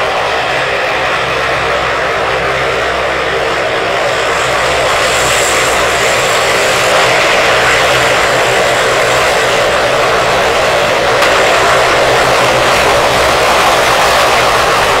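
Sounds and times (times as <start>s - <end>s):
high turbine whine: 0.0s - 15.0s
turboprop engines droning: 0.0s - 15.0s.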